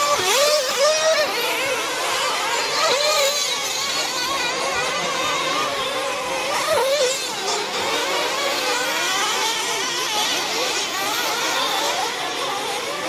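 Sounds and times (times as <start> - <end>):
rc car engines whining and revving: 0.0 - 13.0.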